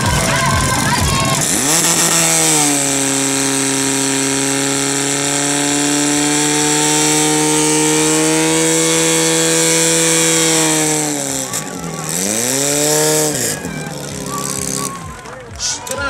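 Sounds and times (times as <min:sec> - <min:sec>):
fire pump engine running: 0:00.0 - 0:16.0.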